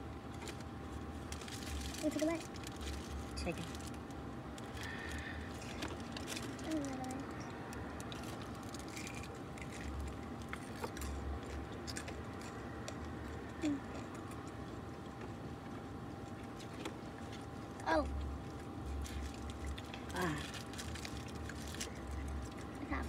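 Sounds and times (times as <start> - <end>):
steady low hum: 0.0 - 23.0
people chewing: 0.3 - 23.0.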